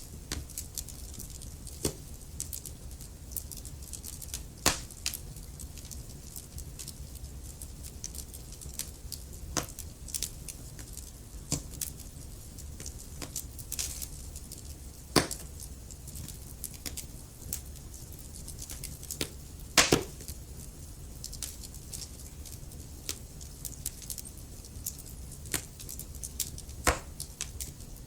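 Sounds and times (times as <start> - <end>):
fire popping: 0.0 - 28.0
low fire rumble: 0.0 - 28.0
wood fire crackling: 0.0 - 28.0.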